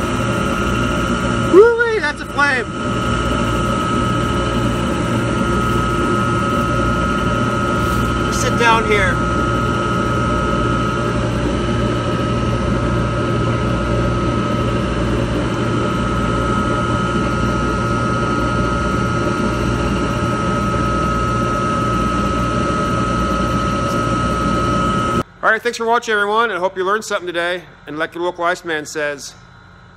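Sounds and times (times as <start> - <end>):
dehumidifier machine noise: 0.0 - 29.9.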